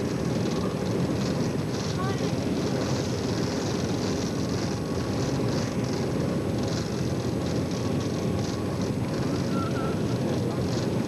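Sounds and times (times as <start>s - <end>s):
jet airliner rumble and hiss: 0.0s - 11.0s.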